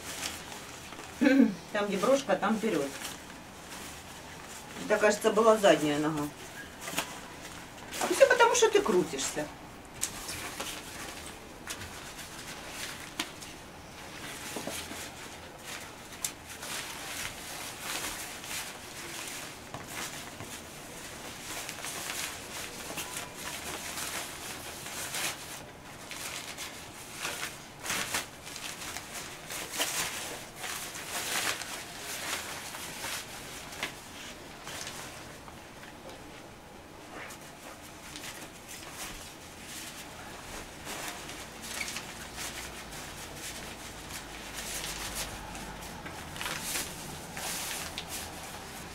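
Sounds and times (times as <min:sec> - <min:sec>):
nylon raincoat rustling: 0:00.0 - 0:36.4, 0:37.0 - 0:48.9.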